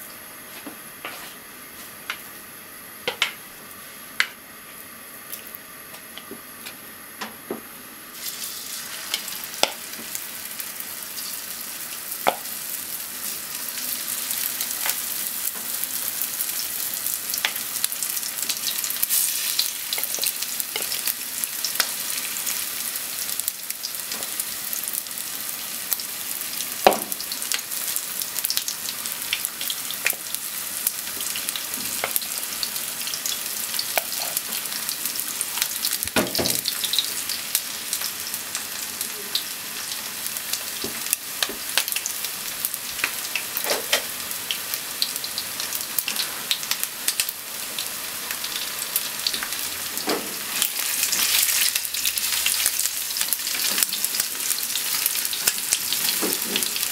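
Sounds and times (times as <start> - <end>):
chicken sizzling in hot oil: 8.0 - 56.9.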